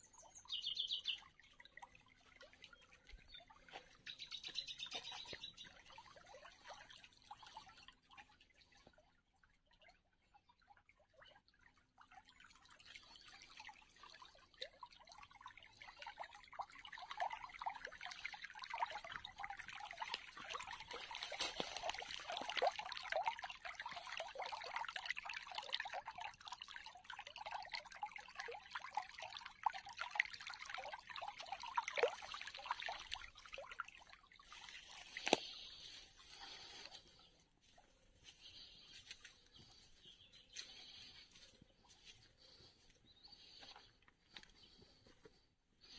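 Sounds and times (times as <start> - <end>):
water trickling over stones: 0.0 - 45.9.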